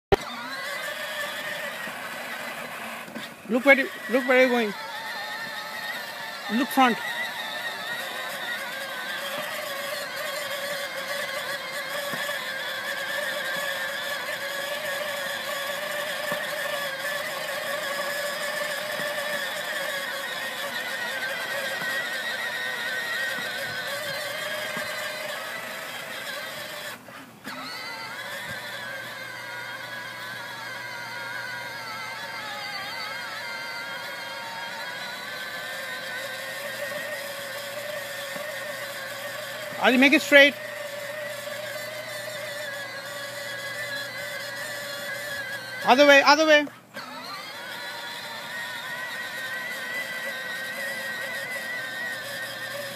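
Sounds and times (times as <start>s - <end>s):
electric ride-on car motor whine: 0.0s - 52.9s.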